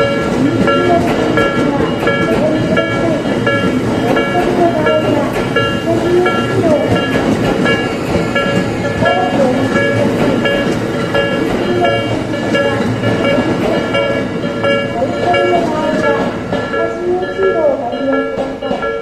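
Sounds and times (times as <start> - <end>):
level crossing warning bell: 0.0 - 19.0
train wheels rumbling on rail: 0.0 - 19.0.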